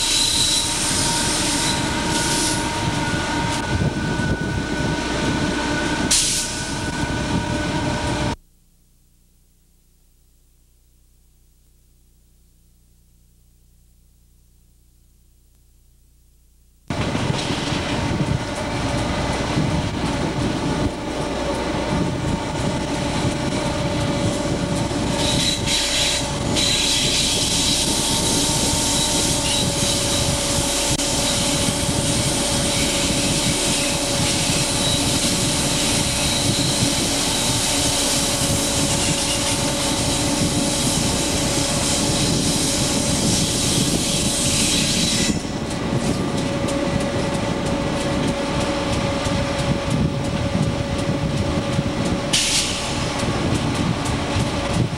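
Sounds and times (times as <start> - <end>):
locomotive rumble: 0.0 - 8.4, 16.9 - 54.9.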